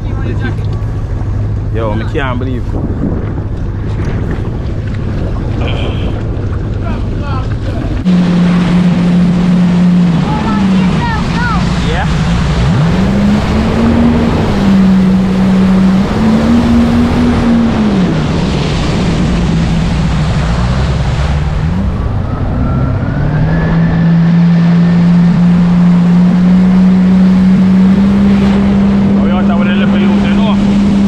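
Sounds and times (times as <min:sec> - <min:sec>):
jet ski engine running: 0:00.0 - 0:31.0
water rushing: 0:00.0 - 0:31.0
wind: 0:00.0 - 0:31.0.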